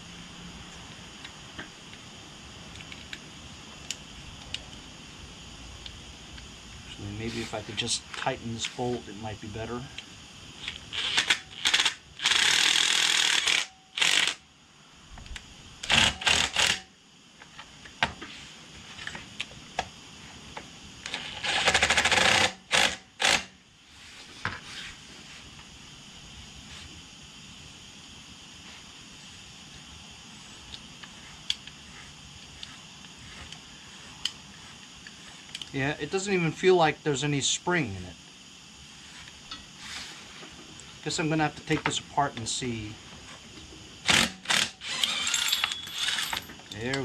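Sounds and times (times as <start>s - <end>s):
faint steady background noise: 0.0s - 47.0s.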